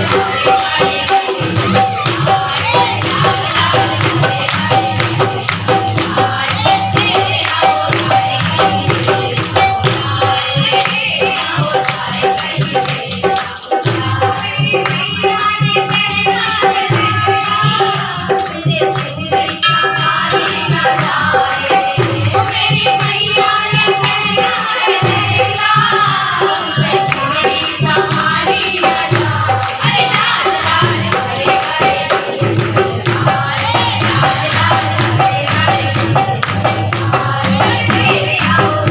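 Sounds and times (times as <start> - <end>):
tambourine jingling: 0.0 - 38.9
voices singing devotional song: 0.0 - 38.9.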